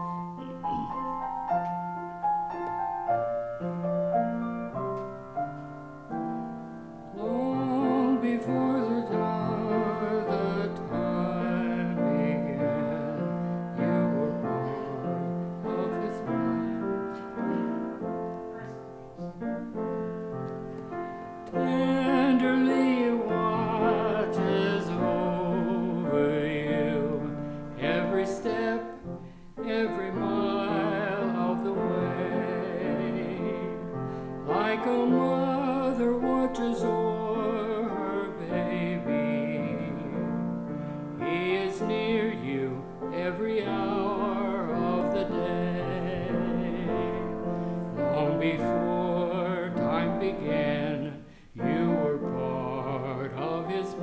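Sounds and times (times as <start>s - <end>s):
piano accompaniment: 0.0s - 54.0s
man singing gospel with vibrato: 7.0s - 17.7s, 21.4s - 54.0s.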